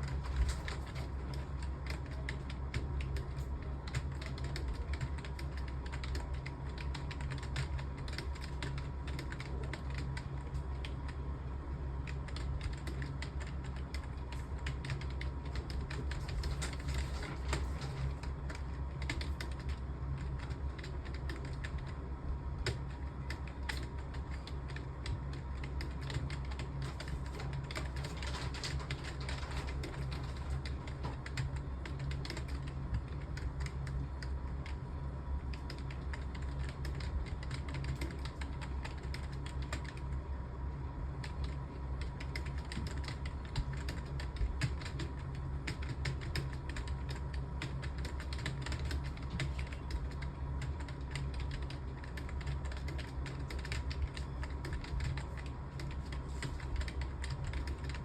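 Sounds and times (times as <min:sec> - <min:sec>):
fast typing on keyboard: 0:00.0 - 0:40.2, 0:41.1 - 0:58.0
low electrical hum: 0:00.0 - 0:58.0.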